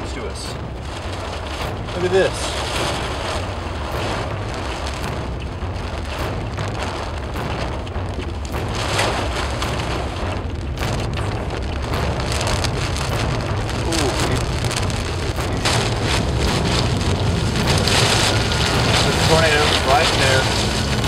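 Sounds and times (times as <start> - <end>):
heavy rain on car roof: 0.0 - 21.0
steady low rumble: 0.0 - 21.0.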